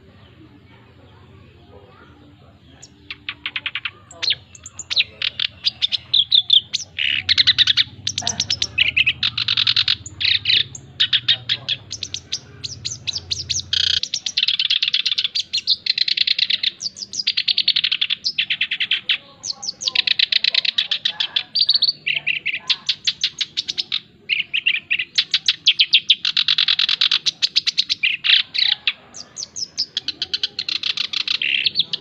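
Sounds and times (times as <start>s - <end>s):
bird singing rapid trills: 0.0s - 32.0s.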